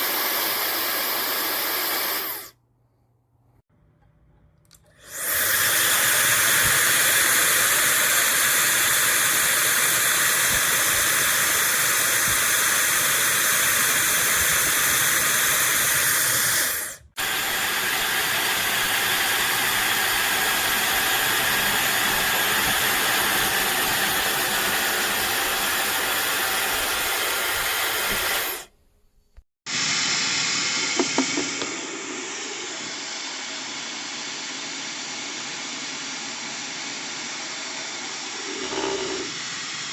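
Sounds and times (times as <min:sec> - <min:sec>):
hair dryer blowing: 0:00.0 - 0:02.6, 0:05.0 - 0:28.7, 0:29.7 - 0:39.9.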